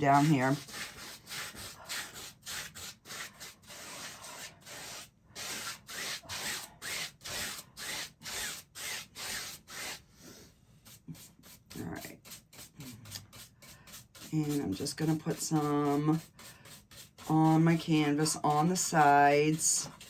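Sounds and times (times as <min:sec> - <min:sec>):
paintbrush scrubbing on canvas: 0:00.0 - 0:20.0.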